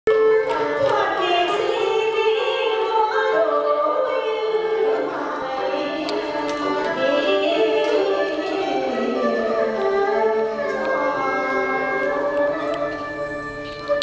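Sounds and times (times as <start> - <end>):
traditional instruments playing: 0.1 - 14.0
voices singing long notes: 0.6 - 14.0.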